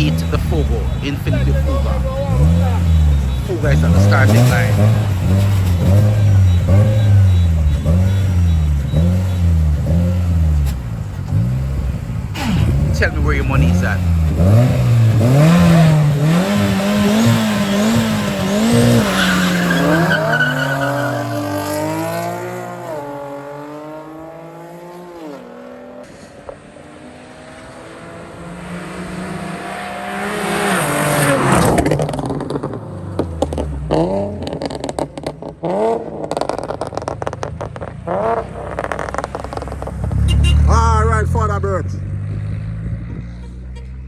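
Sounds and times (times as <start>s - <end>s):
race cars revving and accelerating: 0.0s - 44.0s.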